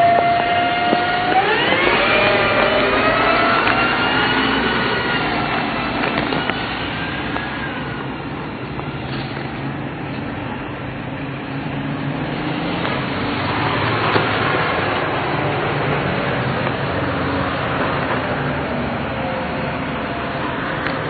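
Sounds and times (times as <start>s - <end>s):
engine whine gliding in pitch: 0.0s - 21.0s
street traffic: 0.0s - 21.0s.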